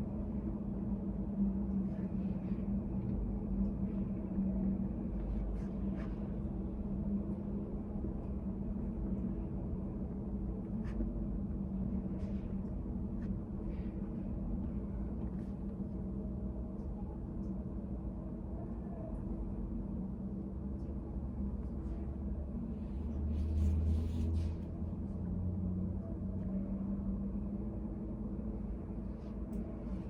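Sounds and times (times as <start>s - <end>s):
low hum with constant tones: 0.0s - 30.0s.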